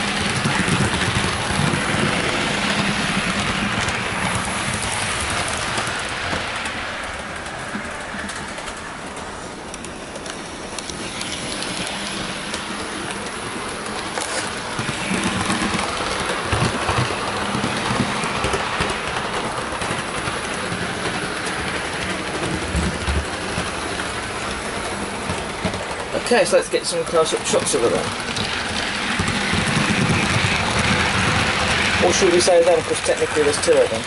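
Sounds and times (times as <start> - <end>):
model train rumbling on rails: 0.0 - 34.0.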